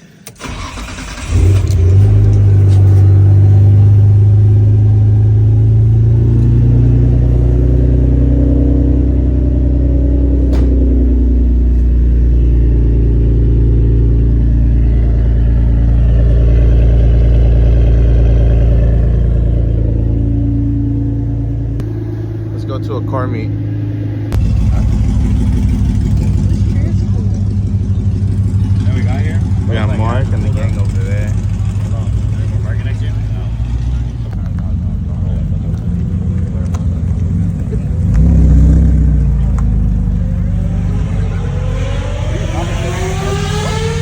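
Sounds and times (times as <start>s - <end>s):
car engine running loudly: 0.0s - 44.0s.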